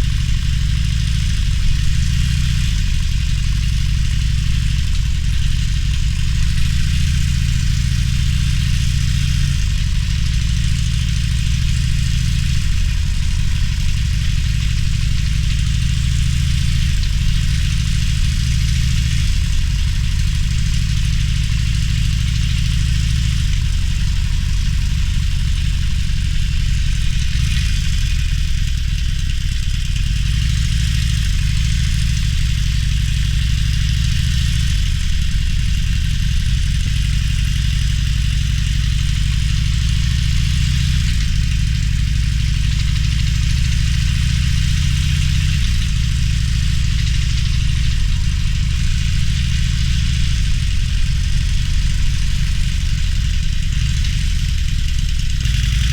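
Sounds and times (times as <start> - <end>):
motorcycle engine at low revs: 0.0 - 55.9
wind and road noise: 0.0 - 55.9.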